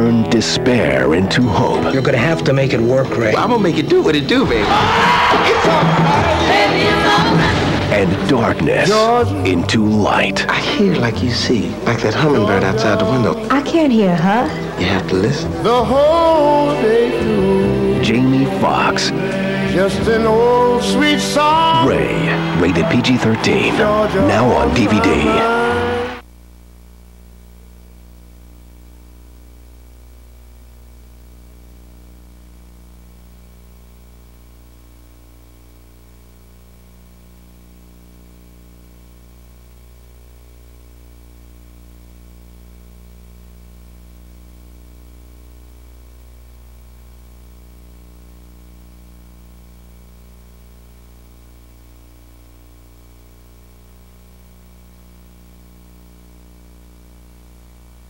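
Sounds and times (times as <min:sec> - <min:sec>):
faint tape hiss: 0:00.0 - 0:58.0
low electrical hum: 0:00.0 - 0:58.0.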